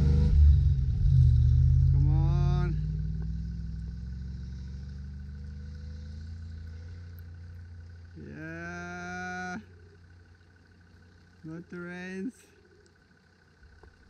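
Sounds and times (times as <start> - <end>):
truck engine pulling away: 0.0 - 11.6.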